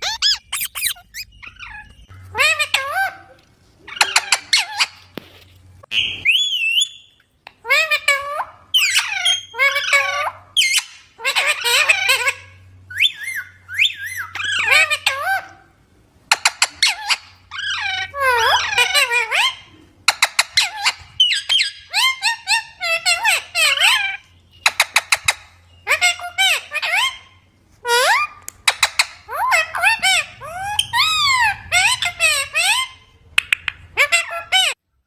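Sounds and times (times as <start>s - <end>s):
parrot squawking and chattering: 0.0s - 5.2s, 5.9s - 34.8s.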